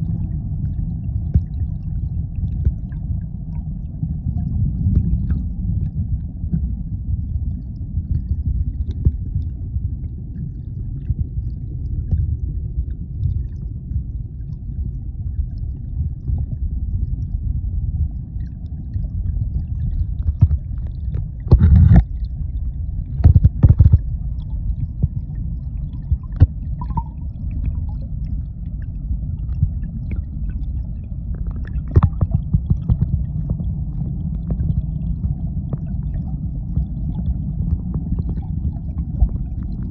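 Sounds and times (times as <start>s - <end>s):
underwater water rumble and gurgle: 0.0s - 39.9s.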